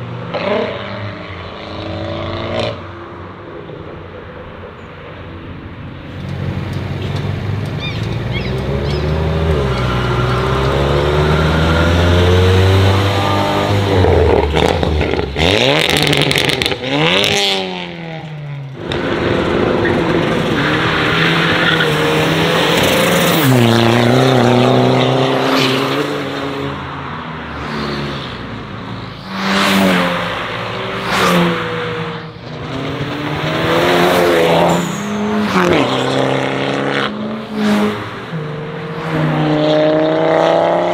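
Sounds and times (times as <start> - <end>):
cars accelerating hard: 0.0 - 2.8, 6.3 - 40.9.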